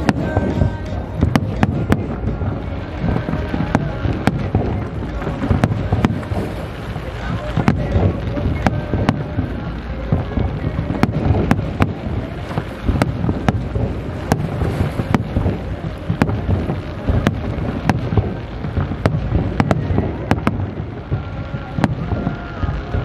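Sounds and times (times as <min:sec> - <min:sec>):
fireworks low booms: 0:00.0 - 0:23.0.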